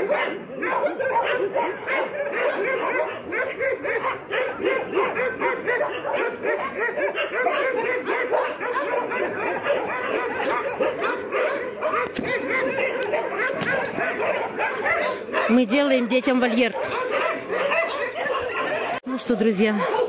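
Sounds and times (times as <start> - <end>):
puppies whining and yelping: 0.0 - 19.0.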